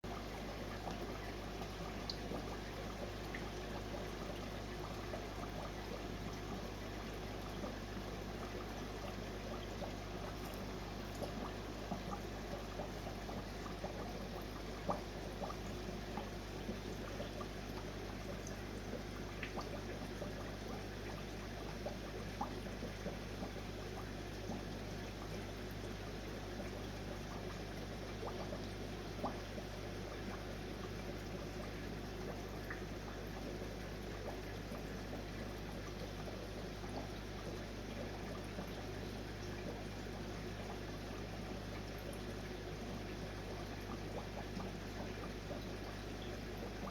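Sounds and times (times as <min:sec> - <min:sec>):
low constant hum: 0:00.0 - 0:46.9
water trickling in aquarium: 0:00.0 - 0:46.9.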